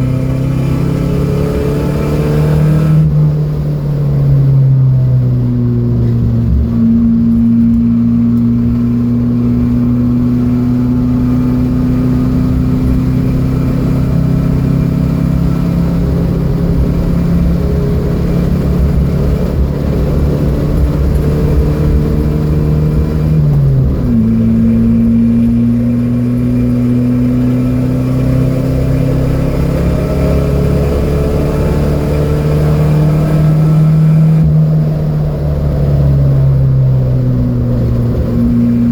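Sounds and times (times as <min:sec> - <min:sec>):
car engine pulling under load: 0:00.0 - 0:38.9.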